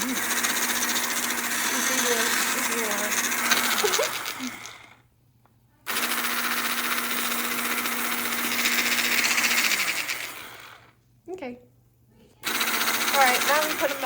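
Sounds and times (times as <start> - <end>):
milk frother whirring: 0.0 - 5.1, 5.8 - 11.0, 12.4 - 14.0.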